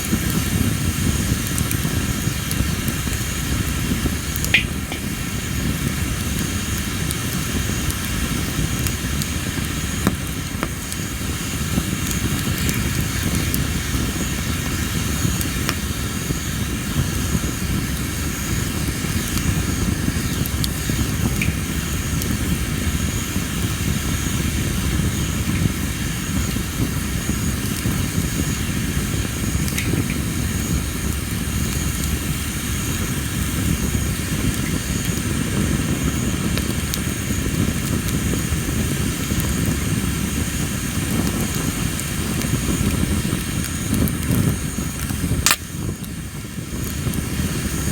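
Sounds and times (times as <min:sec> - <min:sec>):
campfire rumble: 0:00.0 - 0:47.9
fire crackling and popping: 0:00.0 - 0:47.9.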